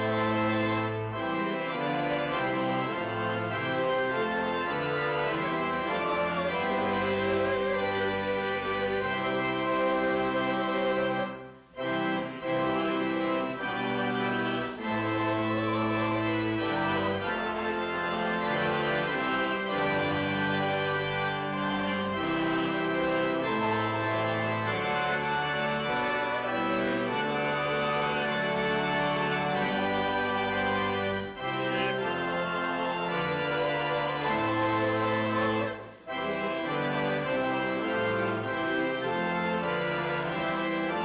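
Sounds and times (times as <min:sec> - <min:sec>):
church organ chords: 0:00.0 - 0:41.0.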